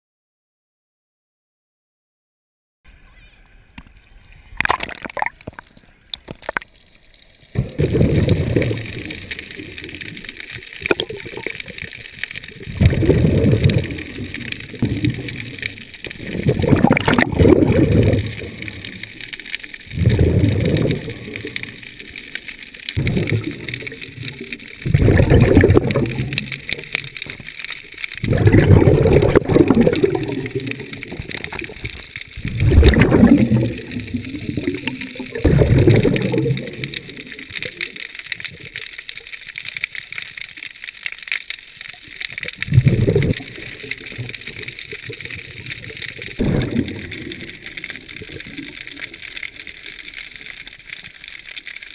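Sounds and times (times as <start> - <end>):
underwater exhaled bubbles gurgling: 4.4 - 51.9.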